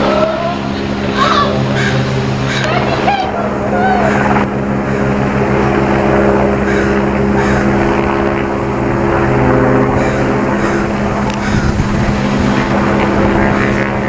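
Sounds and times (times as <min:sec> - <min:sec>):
helicopter hovering: 0:00.0 - 0:14.0.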